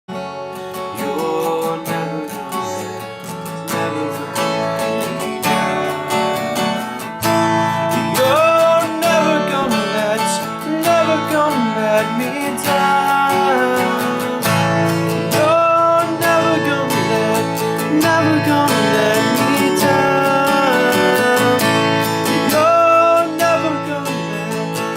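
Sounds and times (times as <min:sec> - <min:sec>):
strummed acoustic guitar: 0:00.1 - 0:24.9.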